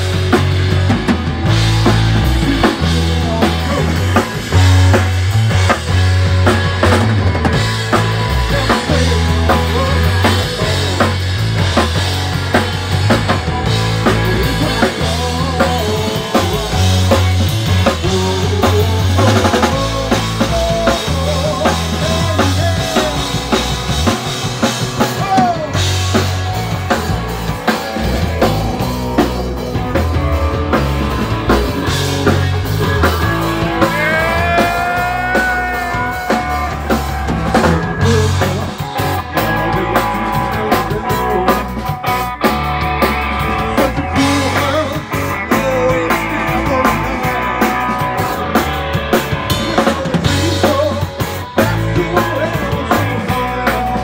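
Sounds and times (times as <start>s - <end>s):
bass guitar line: 0.0s - 54.0s
drum kit beat: 0.0s - 54.0s
electric guitar: 0.0s - 54.0s.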